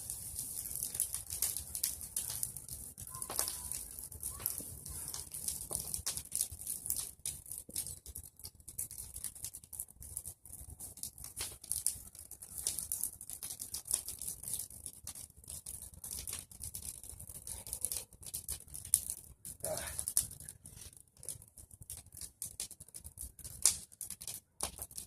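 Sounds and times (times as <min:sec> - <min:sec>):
bonfire crackling: 0:00.0 - 0:25.0.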